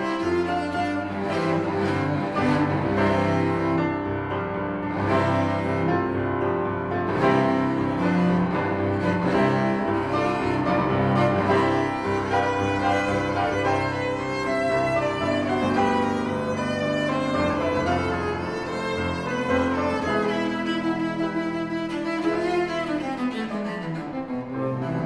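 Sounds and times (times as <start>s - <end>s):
bowed cello: 0.0s - 25.0s
piano accompaniment: 0.0s - 25.0s.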